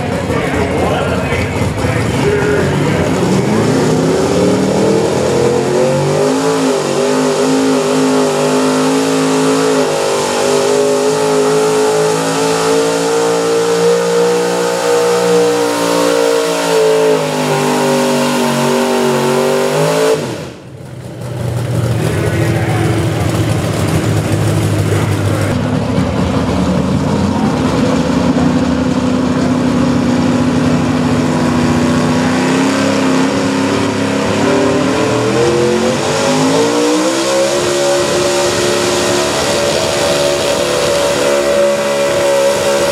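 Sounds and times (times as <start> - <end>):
truck engine at high revs: 0.0 - 42.9.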